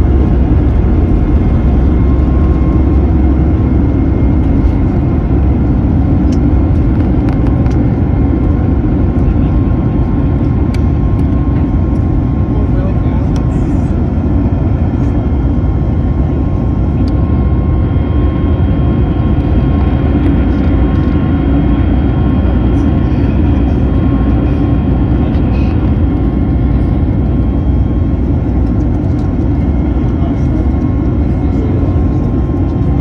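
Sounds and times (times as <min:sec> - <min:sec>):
aircraft cabin roar: 0:00.0 - 0:33.0.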